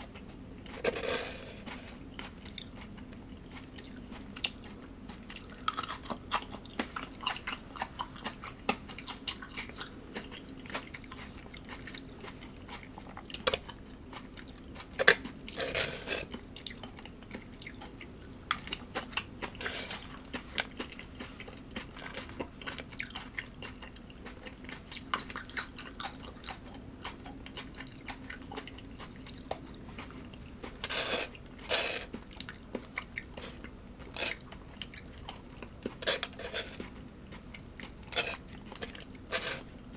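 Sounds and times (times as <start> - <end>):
faint steady hum: 0.0 - 39.9
person chewing food: 0.0 - 39.9.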